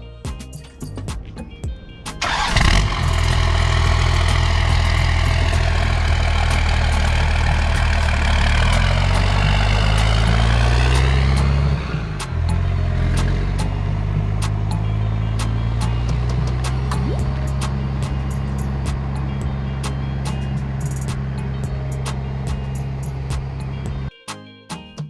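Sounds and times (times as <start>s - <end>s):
boat motor running: 2.2s - 24.1s.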